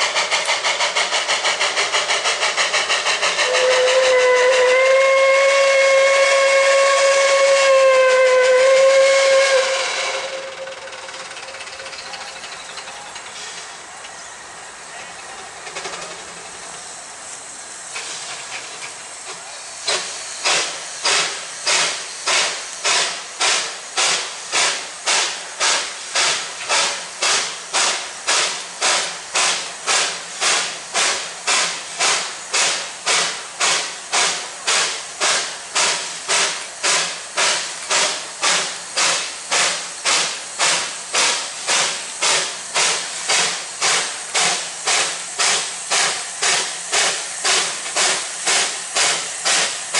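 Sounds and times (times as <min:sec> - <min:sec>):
steam hissing: 0:00.0 - 0:49.9
steam locomotive exhaust chuffs: 0:00.0 - 0:49.9.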